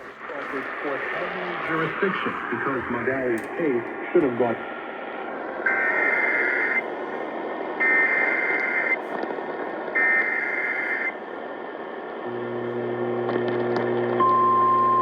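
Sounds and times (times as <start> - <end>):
radio static hiss: 0.0 - 14.3.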